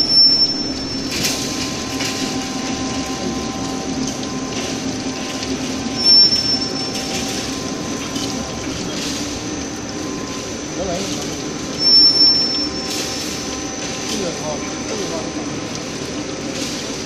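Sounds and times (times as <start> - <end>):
high-pitched squeal: 0.0 - 11.1, 11.7 - 15.6
milling machine hum and whine: 0.0 - 17.0.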